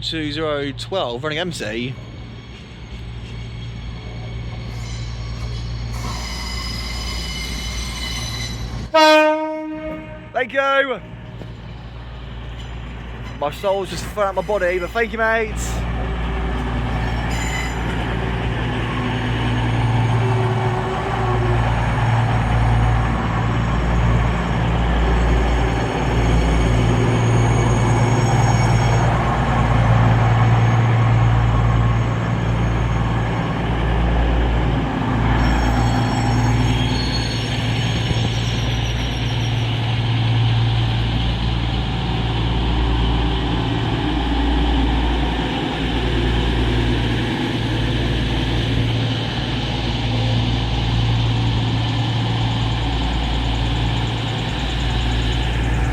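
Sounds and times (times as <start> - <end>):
train diesel engines humming: 0.0 - 55.9.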